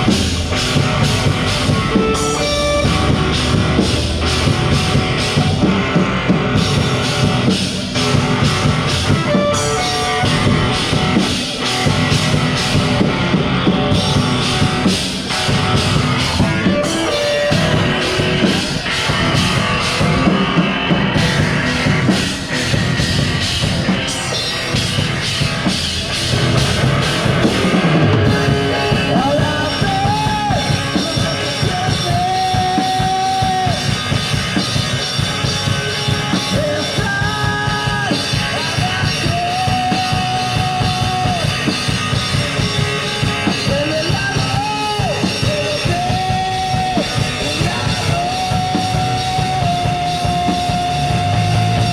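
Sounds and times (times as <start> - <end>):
guitar bending held notes: 0.0 - 51.9
punk rock band playing: 0.0 - 51.9.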